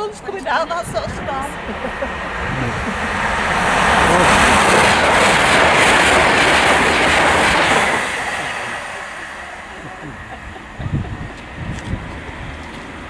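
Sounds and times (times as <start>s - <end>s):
passenger train passing at speed: 0.0s - 13.0s.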